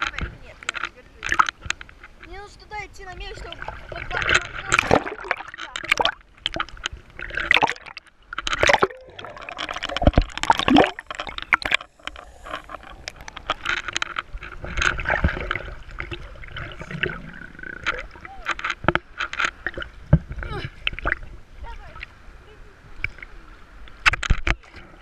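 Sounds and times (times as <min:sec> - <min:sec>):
sea waves splashing against camera: 0:00.0 - 0:25.0.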